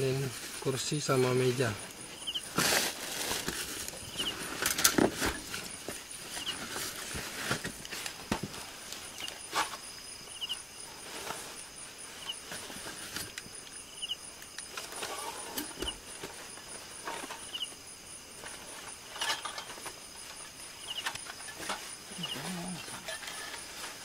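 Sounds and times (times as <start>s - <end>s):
camping gear clattering: 0.0s - 24.0s
crickets chirping: 0.0s - 24.0s.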